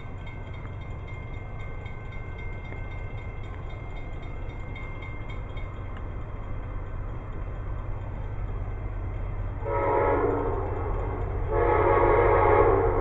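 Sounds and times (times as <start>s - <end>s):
diesel train rumble: 0.0s - 13.0s.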